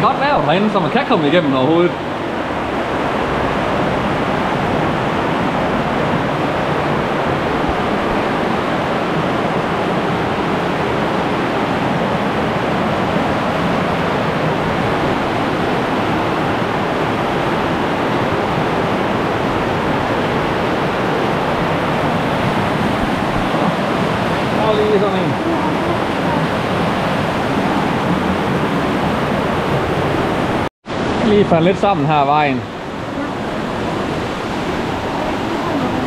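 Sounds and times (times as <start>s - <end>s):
fast-flowing river water rushing: 0.0s - 36.0s.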